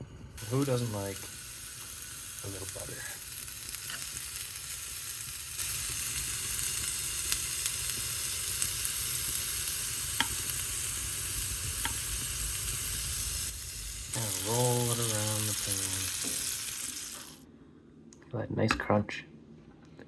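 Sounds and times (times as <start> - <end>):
green beans sizzling in butter: 0.4 - 17.4.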